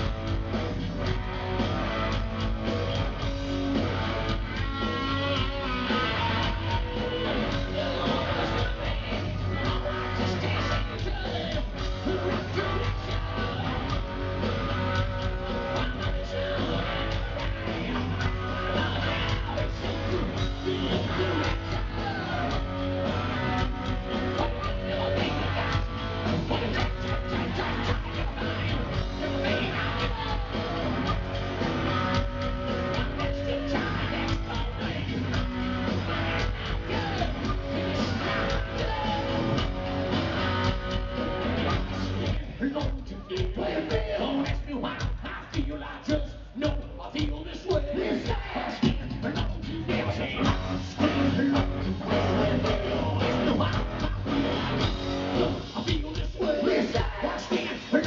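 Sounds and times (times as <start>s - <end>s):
electric guitars: 0.0s - 45.3s, 48.9s - 58.0s
drum kit: 0.0s - 58.0s.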